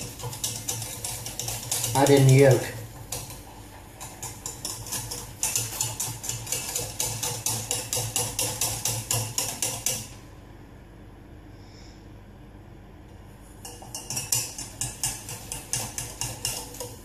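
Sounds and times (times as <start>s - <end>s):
wire whisk beating in a metal pan: 0.0s - 10.2s, 13.5s - 17.0s.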